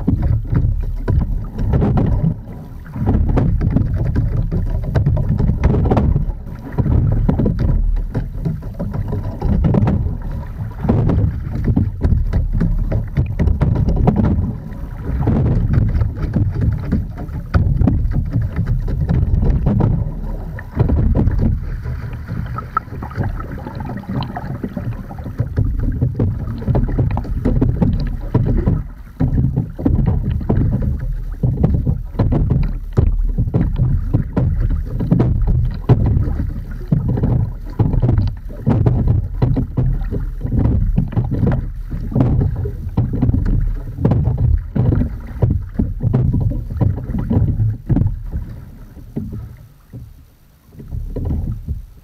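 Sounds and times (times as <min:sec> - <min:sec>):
wind on microphone: 0:00.0 - 0:50.1
water washing against boat hull: 0:00.0 - 0:52.0.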